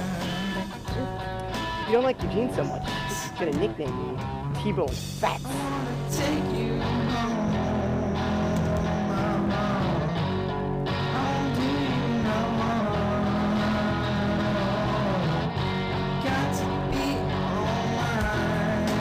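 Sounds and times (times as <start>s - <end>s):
rock song with guitar and singing: 0.0s - 19.0s.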